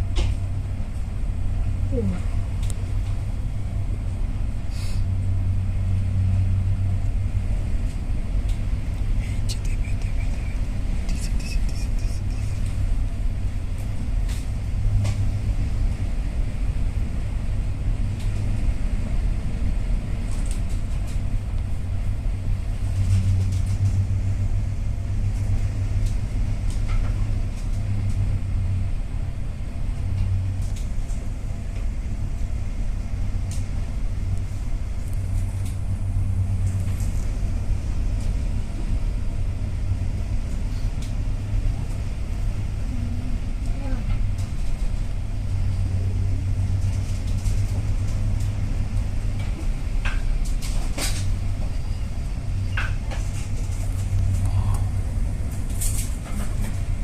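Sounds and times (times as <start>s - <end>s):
ship rumbling in rough seas: 0.0s - 57.0s.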